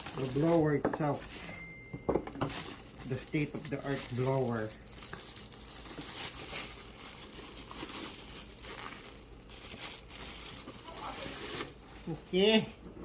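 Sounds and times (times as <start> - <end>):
packaging crinkling and rustling: 0.0 - 12.4.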